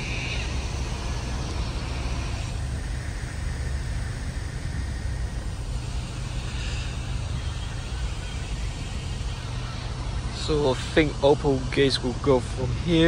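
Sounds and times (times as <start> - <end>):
low rumble of vehicle noise: 0.0 - 13.0.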